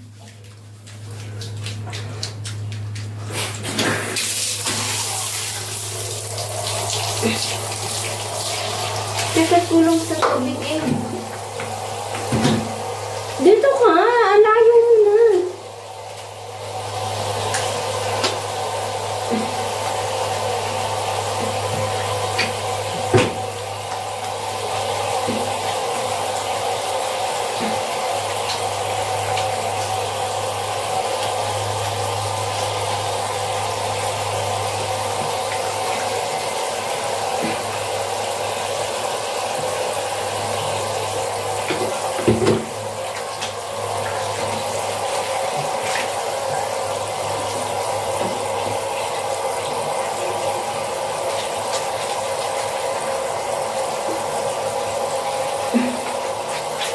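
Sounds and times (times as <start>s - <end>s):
running water: 0.0s - 56.9s.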